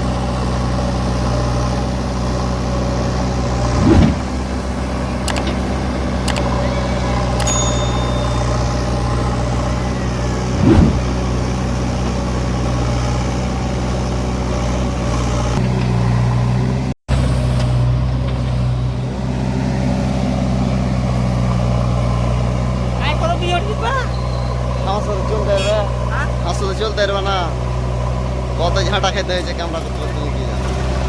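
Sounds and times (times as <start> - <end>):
engine running with low hum: 0.0 - 31.0.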